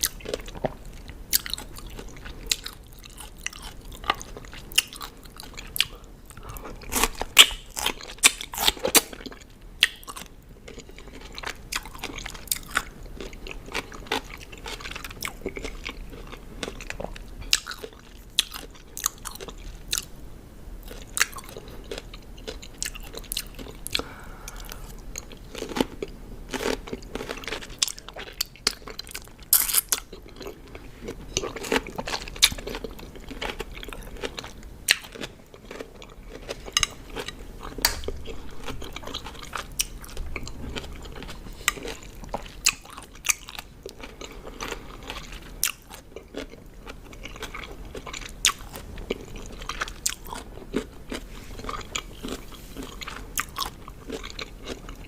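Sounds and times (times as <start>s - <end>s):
crunchy chewing of cucumber: 0.0s - 20.1s, 20.8s - 55.0s.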